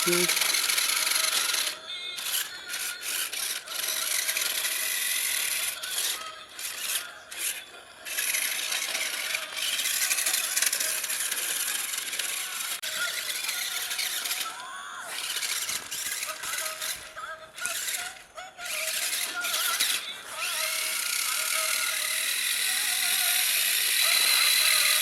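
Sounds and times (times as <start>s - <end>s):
toy truck motor whirring: 0.0s - 25.0s.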